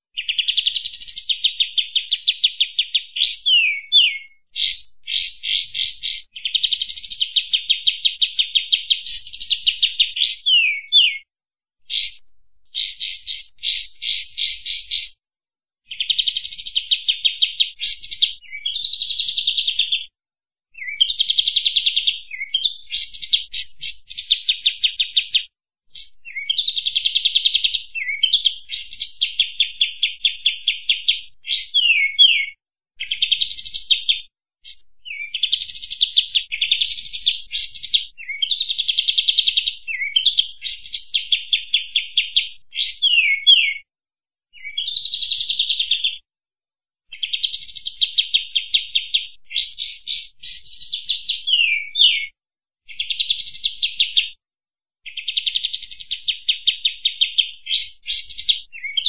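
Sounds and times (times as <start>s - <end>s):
bird singing rapid chirping notes: 0.2s - 11.3s, 11.9s - 15.2s, 15.9s - 20.0s, 20.8s - 43.8s, 44.6s - 46.0s, 47.1s - 52.3s, 52.9s - 54.2s, 55.1s - 59.0s.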